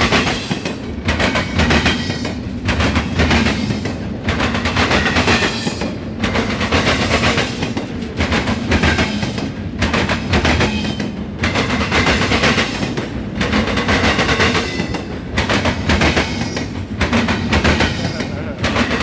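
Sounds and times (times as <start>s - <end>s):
freight train cars rolling past: 0.0s - 19.0s
wheels clattering over rail joints: 0.0s - 19.0s.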